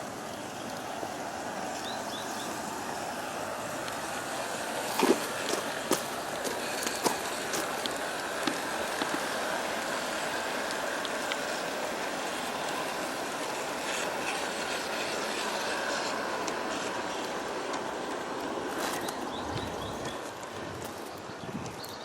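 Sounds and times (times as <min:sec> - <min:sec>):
model train rolling rumble: 0:00.0 - 0:22.0
wheels clicking over rail joints: 0:00.0 - 0:22.0.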